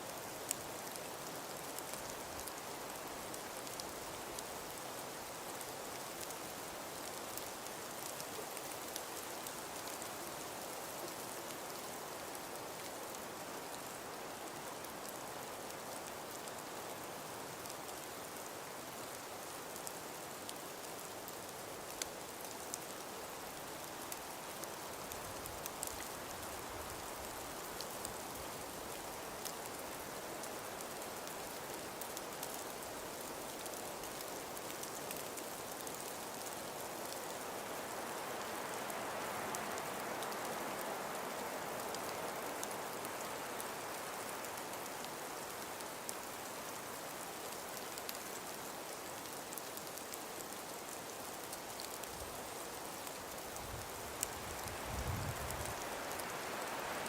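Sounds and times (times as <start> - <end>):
wind hiss: 0.0 - 57.0.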